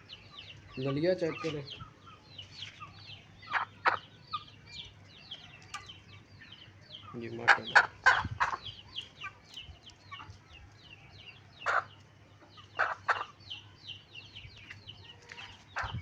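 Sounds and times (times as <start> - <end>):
chicks peeping: 0.0 - 16.0
chicken clucks: 0.4 - 13.6, 14.5 - 16.0.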